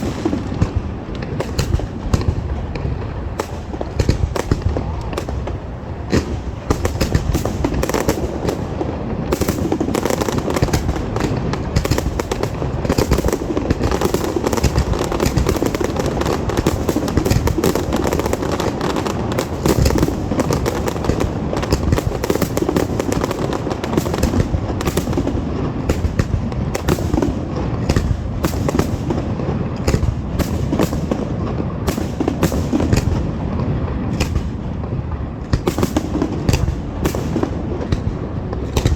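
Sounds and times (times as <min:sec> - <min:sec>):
deep fireworks booms: 0:00.0 - 0:38.9
fireworks bangs and crackles: 0:00.0 - 0:38.9.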